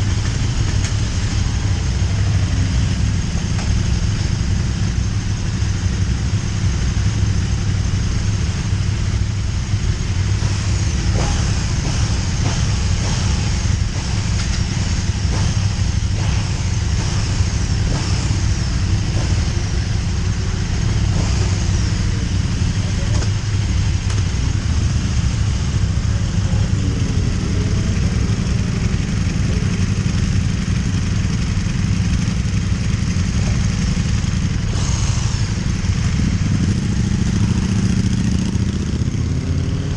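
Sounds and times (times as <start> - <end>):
motorcycle engine at speed: 0.0 - 39.9
steady low rush: 0.0 - 39.9.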